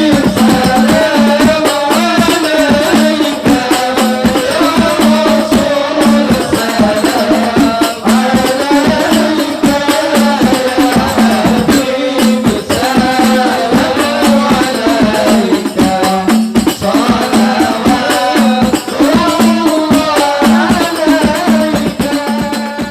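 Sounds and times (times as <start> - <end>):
frame drums and jingles: 0.0 - 22.9
voices singing: 0.0 - 22.9.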